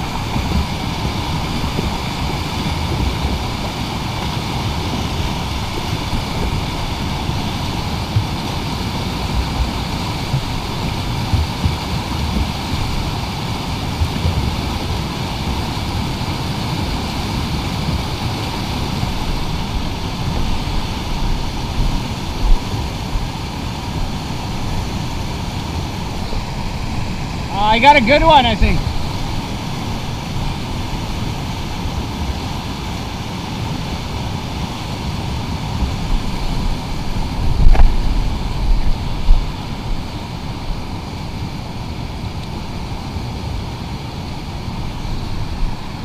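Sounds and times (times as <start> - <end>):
river rapids rushing: 0.0 - 46.0.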